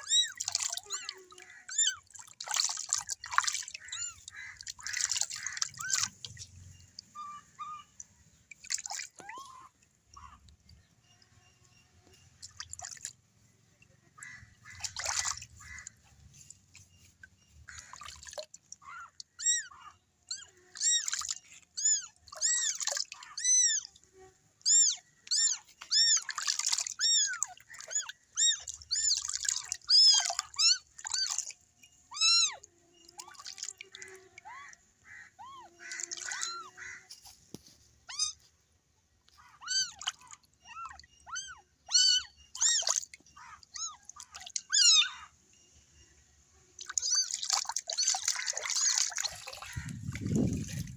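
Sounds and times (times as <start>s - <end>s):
water splashing and dripping: 0.0s - 7.2s, 7.8s - 19.7s, 20.3s - 34.8s, 35.8s - 37.8s, 39.6s - 44.8s, 46.8s - 50.9s.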